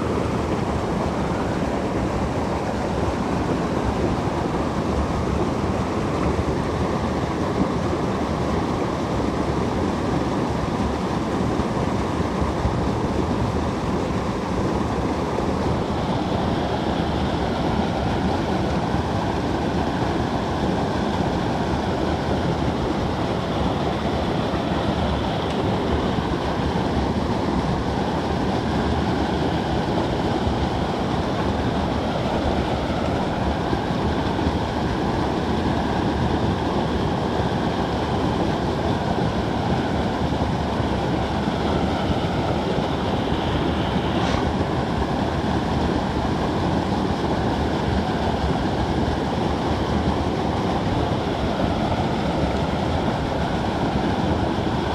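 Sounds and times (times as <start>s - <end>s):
creek water rushing: 0.0s - 54.9s.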